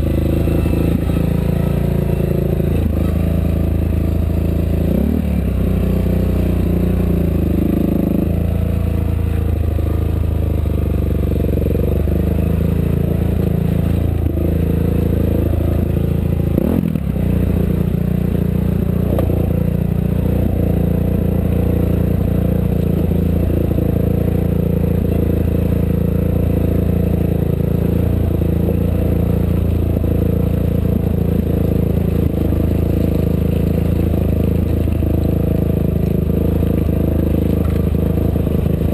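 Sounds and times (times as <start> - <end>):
race vehicle engine running: 0.0 - 38.9.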